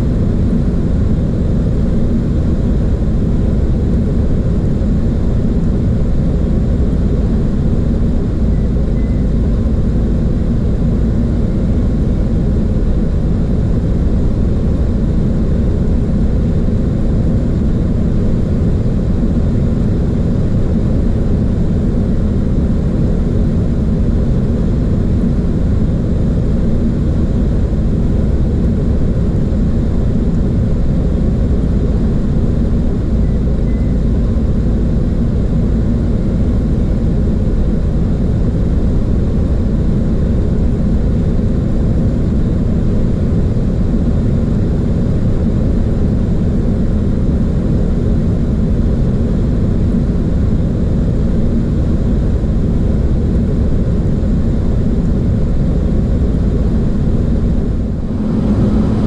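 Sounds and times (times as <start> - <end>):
airflow and engine rush: 0.0 - 59.0.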